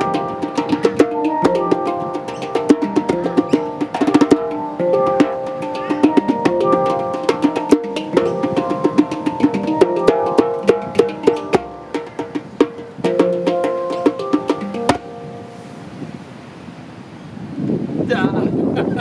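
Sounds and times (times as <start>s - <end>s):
djembe strikes: 0.0s - 15.5s
handpan ringing notes: 0.0s - 15.9s.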